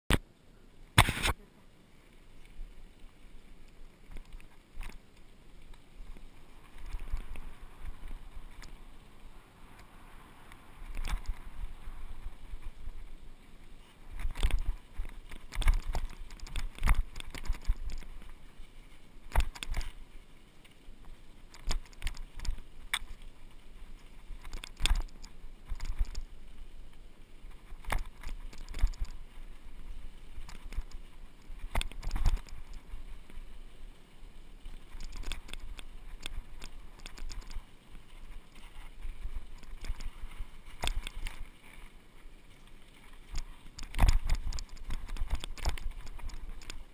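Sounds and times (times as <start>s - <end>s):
wind: 0.0s - 46.9s.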